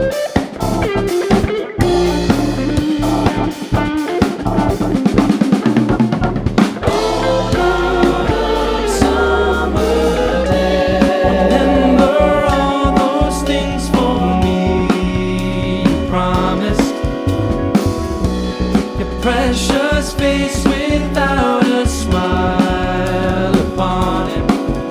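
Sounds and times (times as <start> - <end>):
funk band playing: 0.0 - 24.9.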